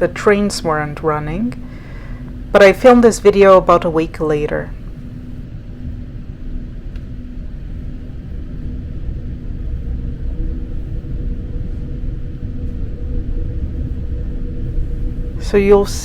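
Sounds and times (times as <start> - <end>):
faint steady hums: 0.0 - 16.0.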